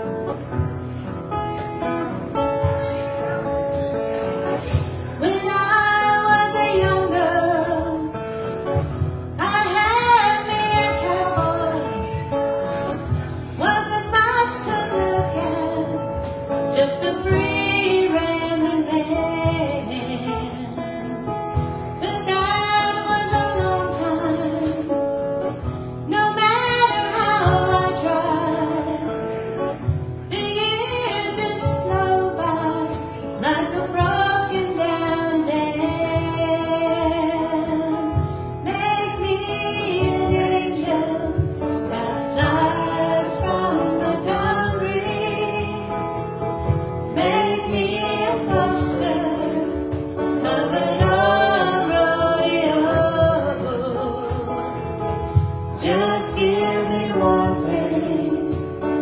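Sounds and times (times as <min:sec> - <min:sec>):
strummed acoustic guitar: 0:00.0 - 0:59.0
woman singing: 0:04.7 - 0:59.0.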